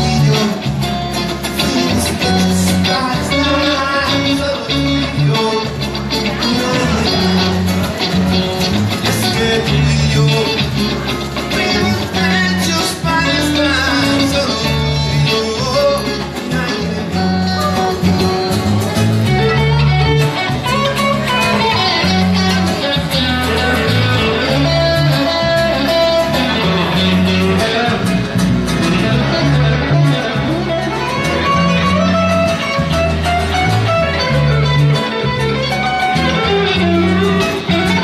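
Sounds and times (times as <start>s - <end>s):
bass line: 0.0s - 38.0s
guitar: 0.0s - 38.0s.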